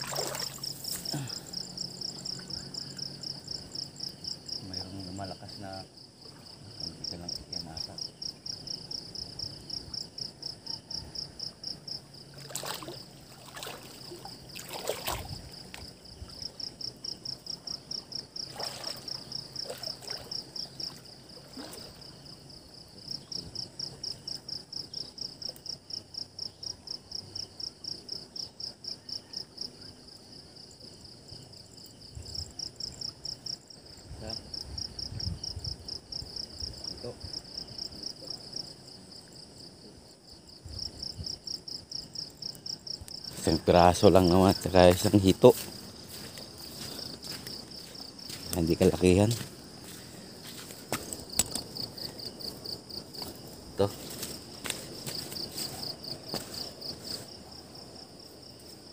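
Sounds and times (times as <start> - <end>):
insect chirping trill: 0.0 - 58.9.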